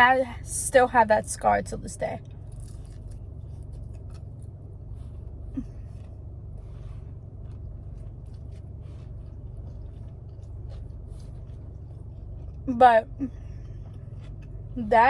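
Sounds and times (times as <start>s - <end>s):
steady low hum: 0.0s - 15.0s
person chewing food: 2.2s - 14.9s.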